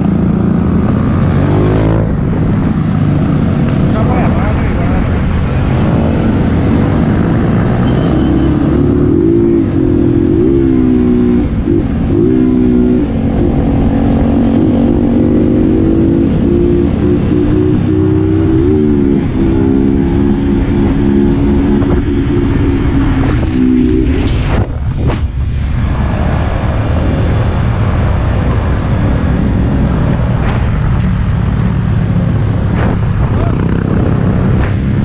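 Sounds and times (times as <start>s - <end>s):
motorcycle engine cruising: 0.0s - 25.6s, 26.6s - 35.0s
wind rumble on microphone: 0.0s - 35.0s.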